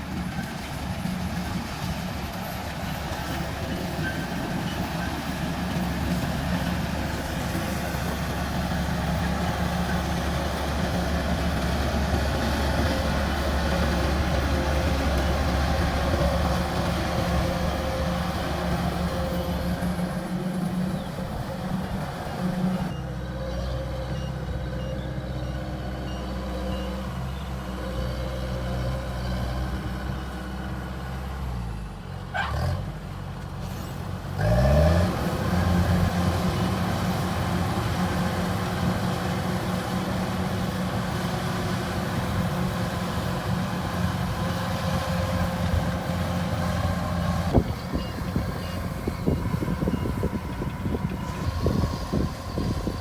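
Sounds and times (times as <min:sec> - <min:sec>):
harvester diesel engine running: 0:00.0 - 0:53.0.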